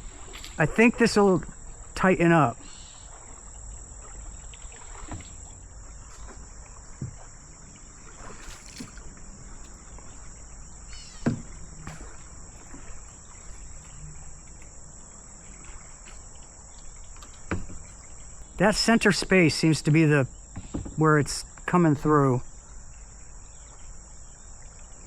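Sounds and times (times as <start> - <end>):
kayak and paddle knocks: 0.0 - 18.6, 19.8 - 21.4
high-pitched insect chorus: 0.0 - 25.0.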